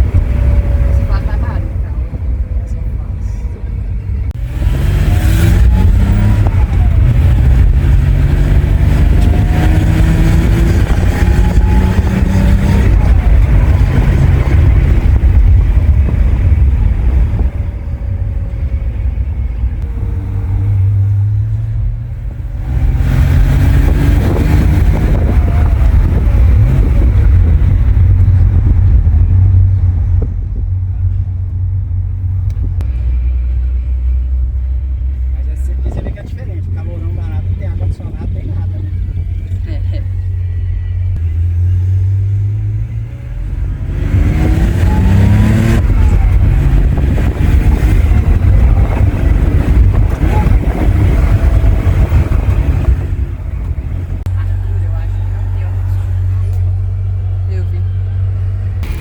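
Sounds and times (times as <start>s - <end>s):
car engine accelerating through gears: 4.2s - 59.0s.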